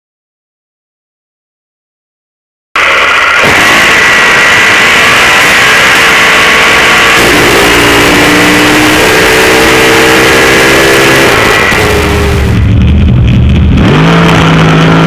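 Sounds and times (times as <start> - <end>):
loud race car engine: 2.8 - 15.0
steady tones: 2.8 - 15.0.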